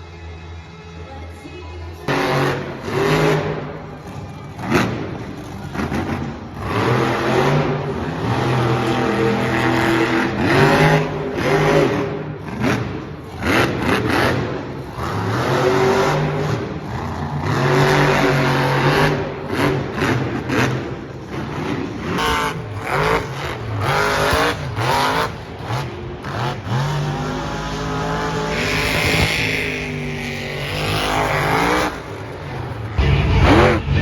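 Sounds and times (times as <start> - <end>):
truck engine revving hard: 2.1 - 34.0.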